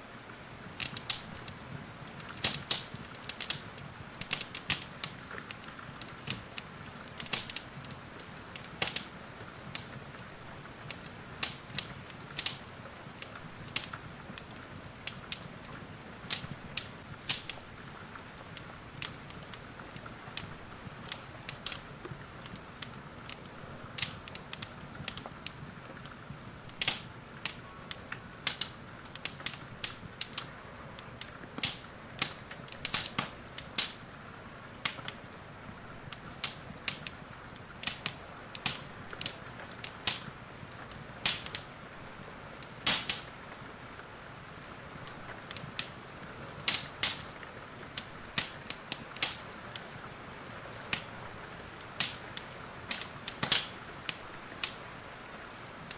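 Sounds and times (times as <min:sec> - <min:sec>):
soft hiss of rain: 0:00.0 - 0:55.9
wood fire crackling and popping: 0:00.2 - 0:55.9.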